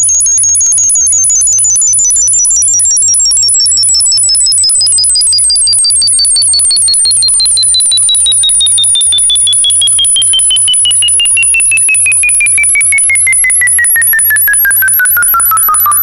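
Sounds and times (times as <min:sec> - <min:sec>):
steady high tones: 0:00.0 - 0:16.0
rapid electronic pulsing: 0:00.1 - 0:16.0.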